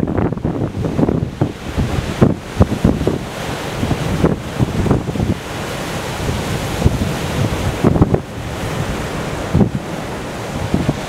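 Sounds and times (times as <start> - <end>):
waves breaking on rocks: 0.0 - 11.0
wind buffeting microphone: 0.0 - 11.0.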